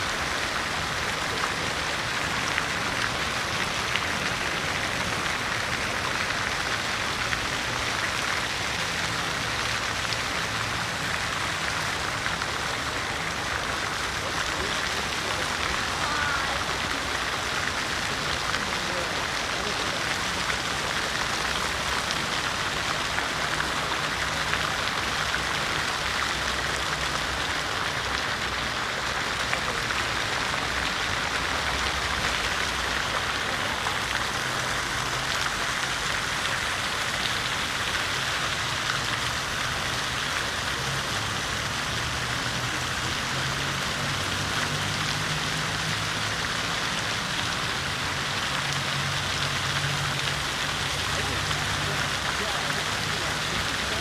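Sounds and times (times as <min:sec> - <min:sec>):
fountain water splashing: 0:00.0 - 0:54.0.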